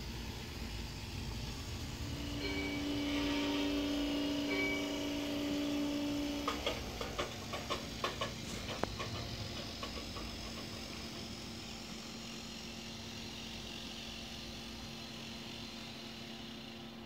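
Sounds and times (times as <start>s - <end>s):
model train engine drone: 0.0s - 17.0s.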